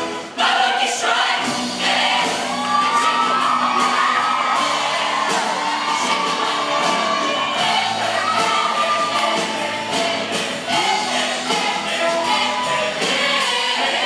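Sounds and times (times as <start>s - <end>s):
choir singing: 0.0s - 14.0s
live band playing: 0.0s - 14.0s
audience whooping: 2.2s - 13.7s.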